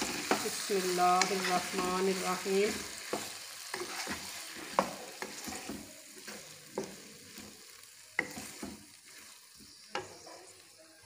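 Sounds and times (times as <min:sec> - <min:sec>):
spatula scraping a wok: 0:00.0 - 0:10.8
faint sizzle: 0:00.0 - 0:11.0.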